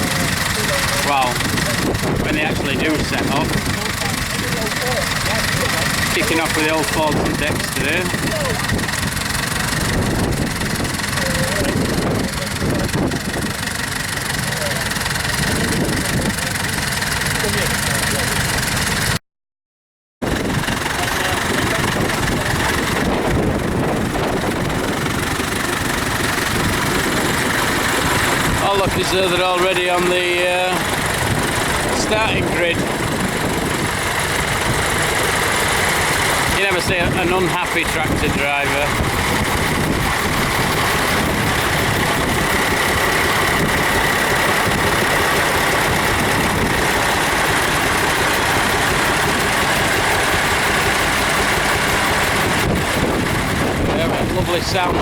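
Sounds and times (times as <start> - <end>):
tractor engines idling: 0.0 - 19.2, 20.2 - 55.0.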